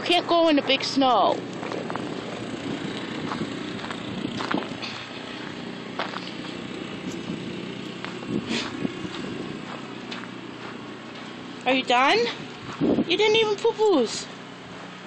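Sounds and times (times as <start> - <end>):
distant snowblower engine running: 0.0 - 15.0.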